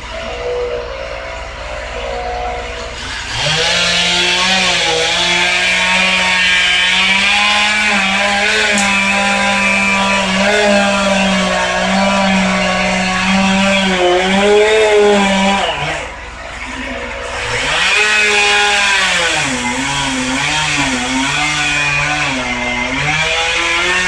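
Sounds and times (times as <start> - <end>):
chainsaw cutting wood: 2.8 - 16.3, 17.2 - 24.0.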